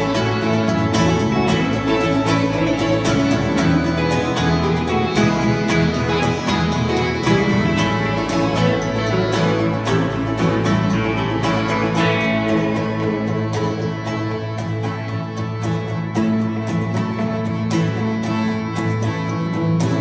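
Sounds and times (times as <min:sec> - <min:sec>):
fiddle: 0:00.0 - 0:20.0
guitar: 0:00.0 - 0:20.0.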